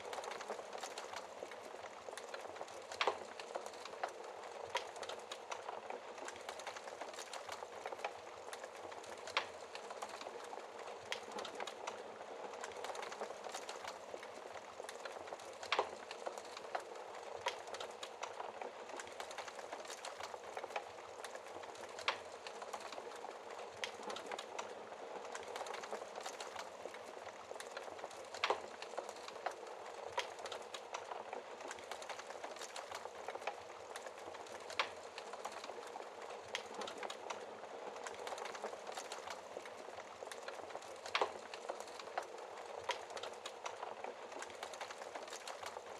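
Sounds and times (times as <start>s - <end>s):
logs crackling in fireplace: 0.0s - 45.9s.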